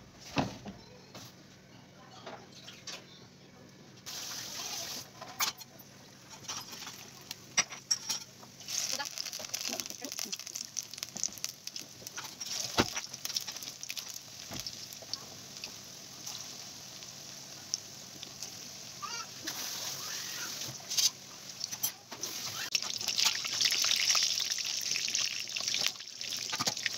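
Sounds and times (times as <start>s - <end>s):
food deep-frying in hot oil: 4.0s - 26.9s.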